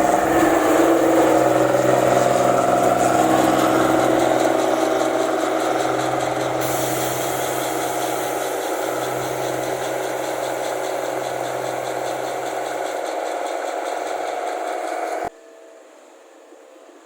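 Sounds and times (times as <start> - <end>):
diesel engine running loudly: 0.0 - 15.3
fast pulsing rattle: 0.0 - 15.3.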